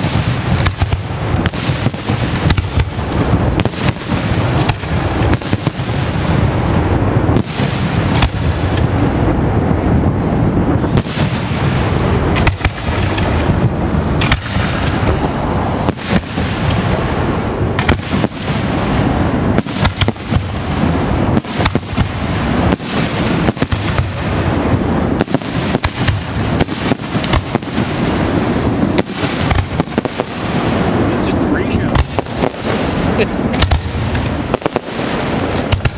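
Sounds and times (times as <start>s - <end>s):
firework bangs and booms: 0.0s - 35.9s
fireworks rumble and crackle: 0.0s - 35.9s.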